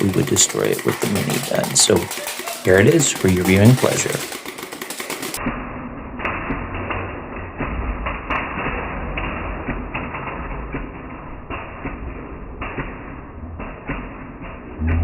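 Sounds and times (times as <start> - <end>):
balls and tiles tapping and thudding: 0.0 - 5.4, 6.2 - 14.9
toy blaster firing: 0.0 - 14.2.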